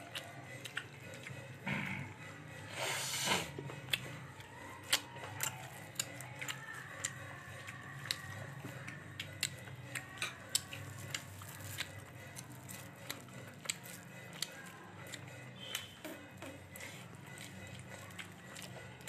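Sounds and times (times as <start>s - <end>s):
chewing crunchy food: 0.0s - 19.0s.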